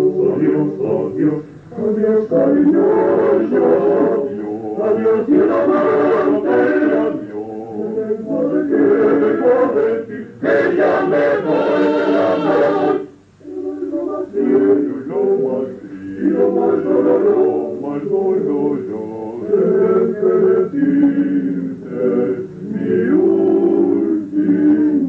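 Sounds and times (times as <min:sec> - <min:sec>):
male choir singing in harmony: 0:00.0 - 0:25.0.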